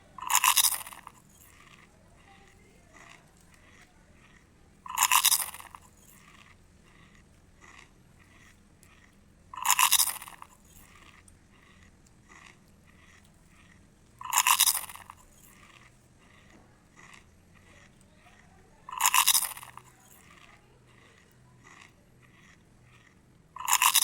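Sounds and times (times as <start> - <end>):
crunchy bites: 0.0 - 1.8, 3.0 - 24.0
soft chewing: 0.0 - 24.0.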